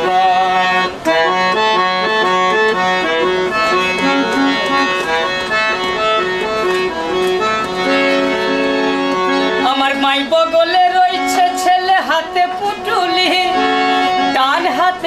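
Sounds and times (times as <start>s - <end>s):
harmonium melody over drone: 0.0s - 15.0s.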